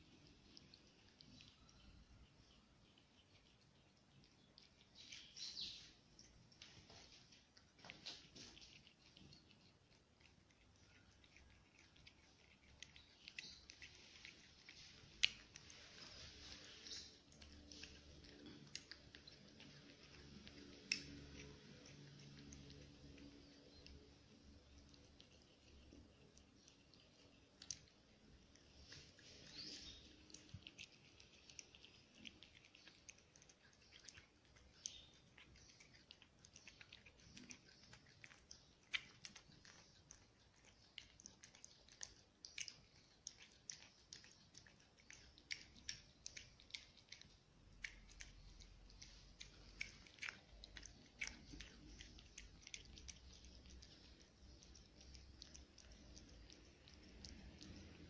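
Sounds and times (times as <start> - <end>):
cat chewing food: 0.0 - 58.0.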